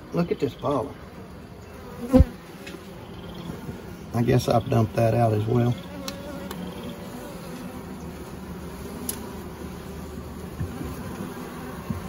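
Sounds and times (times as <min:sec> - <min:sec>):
honeybee colony humming: 0:00.0 - 0:12.0.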